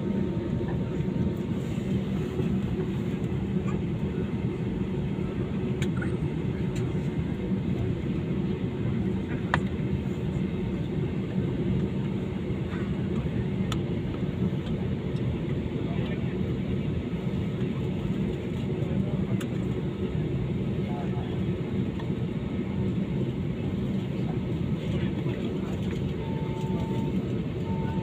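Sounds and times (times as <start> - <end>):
airliner cabin engine drone: 0.0 - 28.0.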